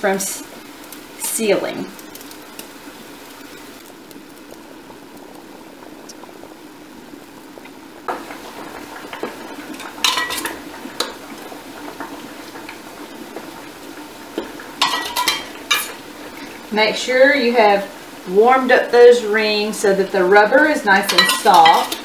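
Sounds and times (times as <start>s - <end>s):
pot of water boiling: 0.0s - 22.0s.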